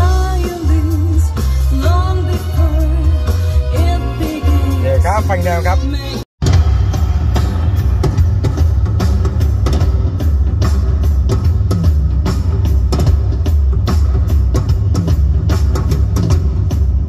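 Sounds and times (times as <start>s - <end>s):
rock music through car speakers: 0.0s - 17.0s.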